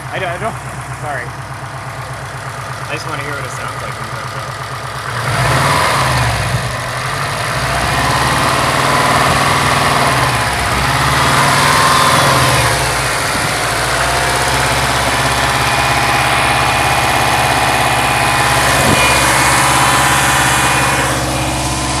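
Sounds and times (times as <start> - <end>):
car engine running: 0.0 - 22.0
engine knocking: 0.0 - 22.0.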